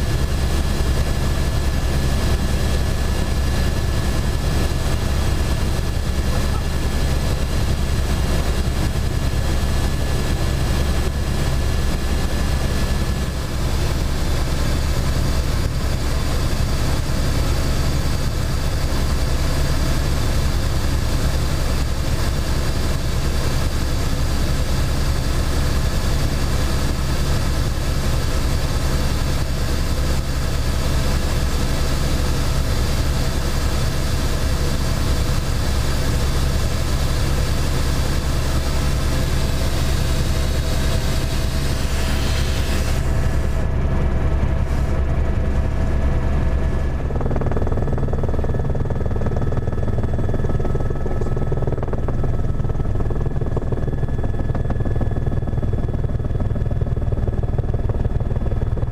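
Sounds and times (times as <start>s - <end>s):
helicopter rotor and engine drone: 0.0s - 58.9s.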